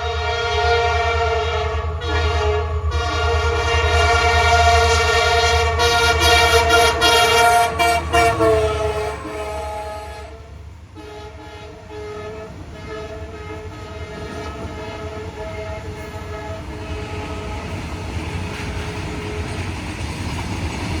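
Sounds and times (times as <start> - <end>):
locomotive horn blasts: 0.0 - 18.0
train rumble and rattle: 0.0 - 21.0.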